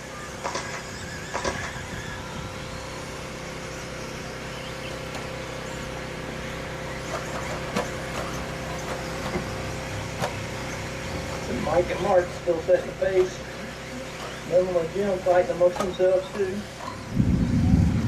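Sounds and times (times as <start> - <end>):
constant noise: 0.0 - 18.0
rc truck motor whine: 0.0 - 18.0.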